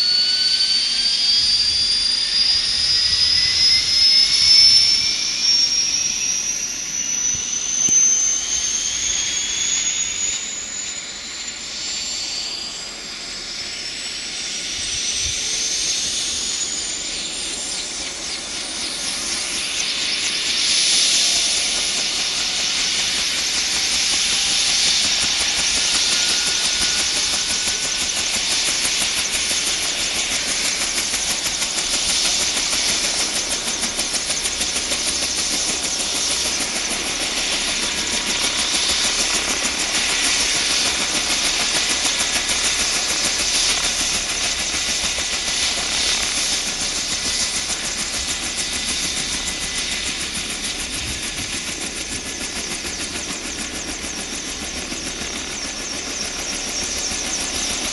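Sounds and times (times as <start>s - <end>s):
helicopter rotor pulse: 0.0s - 57.9s
helicopter turbine hiss: 0.0s - 57.9s.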